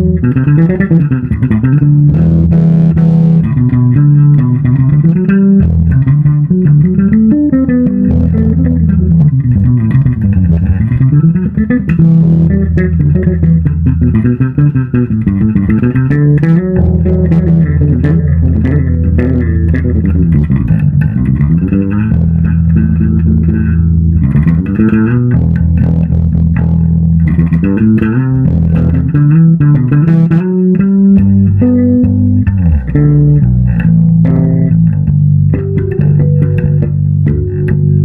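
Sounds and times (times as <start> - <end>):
fingerstyle electric bass: 0.0 - 38.0.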